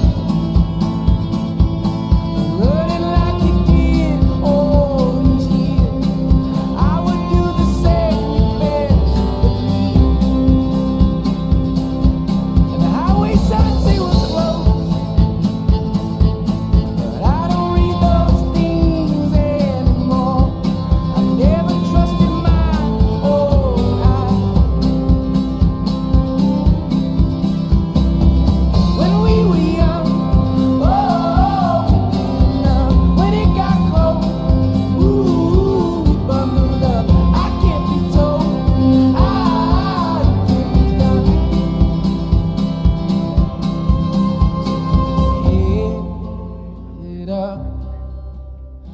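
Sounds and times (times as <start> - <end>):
song with steady beat: 0.0 - 45.8.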